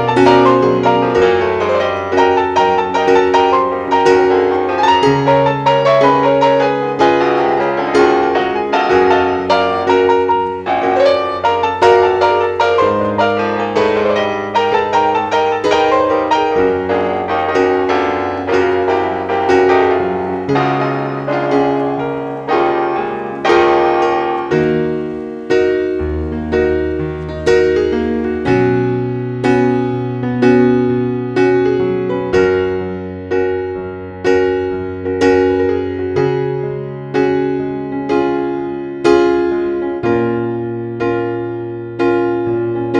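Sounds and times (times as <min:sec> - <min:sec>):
piano music: 0:00.0 - 0:42.9.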